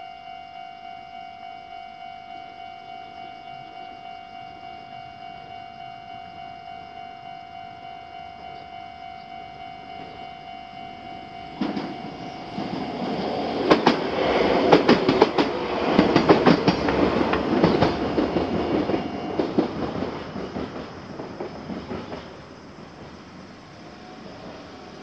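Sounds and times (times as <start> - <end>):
crossing warning bell ringing: 0.0 - 20.6
train wheels clacking on rails: 3.0 - 25.0.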